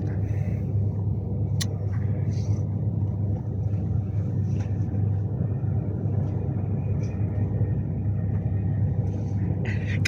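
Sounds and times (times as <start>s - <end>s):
train running at speed: 0.0s - 10.0s.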